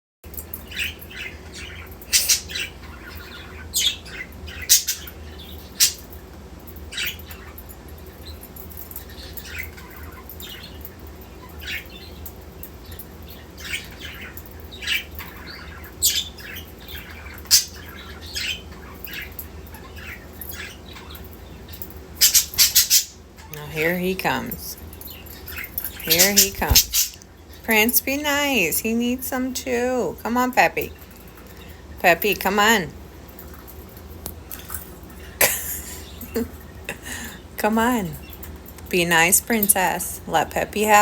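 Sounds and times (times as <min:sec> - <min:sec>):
budgies chirping and squawking: 0:00.5 - 0:06.2, 0:06.8 - 0:41.0.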